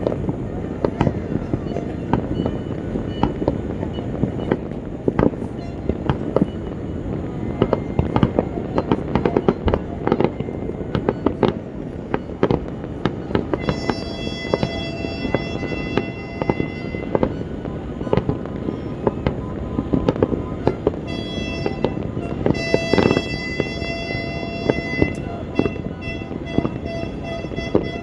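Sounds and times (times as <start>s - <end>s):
fireworks and firecrackers banging: 0.0s - 28.0s.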